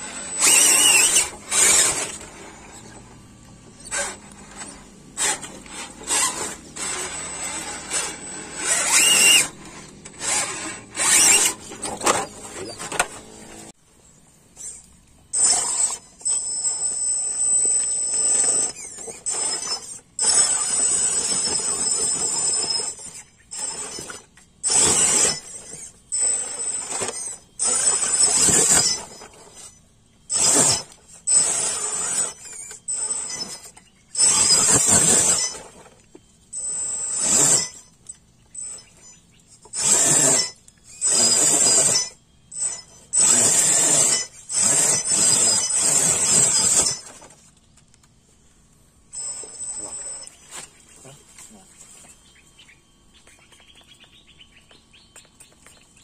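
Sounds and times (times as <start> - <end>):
electric motor whining: 0.0 - 13.8, 14.6 - 47.5, 49.1 - 50.6.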